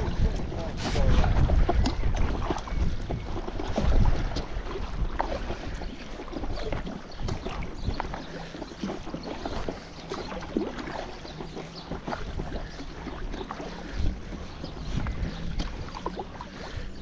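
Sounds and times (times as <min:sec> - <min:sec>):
paddle splashing in water: 0:00.0 - 0:17.0
wind rumbling on microphone: 0:00.0 - 0:17.0.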